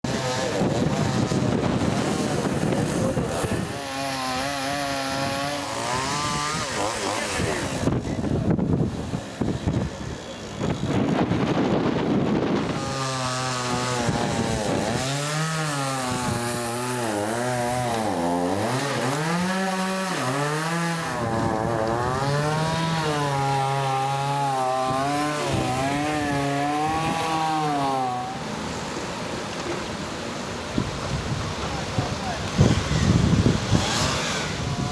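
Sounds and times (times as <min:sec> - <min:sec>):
wind on microphone: 0:00.0 - 0:17.0, 0:20.8 - 0:27.7, 0:30.7 - 0:34.9
small engine revving: 0:00.0 - 0:29.9, 0:32.3 - 0:34.9.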